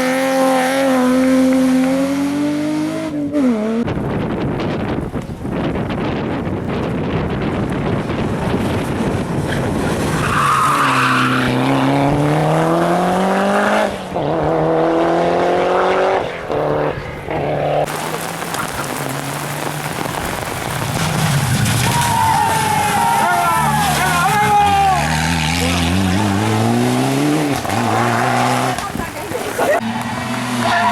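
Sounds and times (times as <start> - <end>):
rally car engine at full throttle: 0.0 - 30.9
tyre noise: 4.8 - 30.9.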